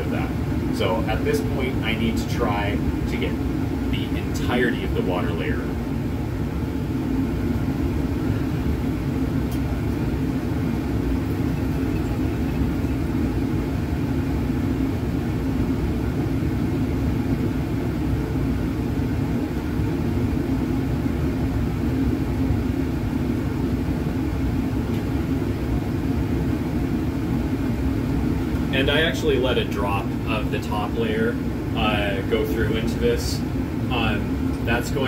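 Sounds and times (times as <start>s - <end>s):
fume hood ventilation rushing air: 0.0s - 35.0s.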